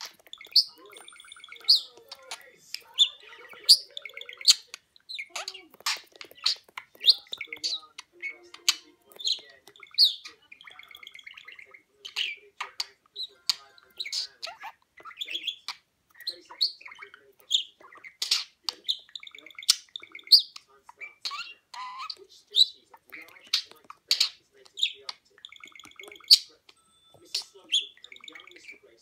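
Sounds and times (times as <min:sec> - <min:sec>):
budgerigar chattering: 0:00.0 - 0:29.0.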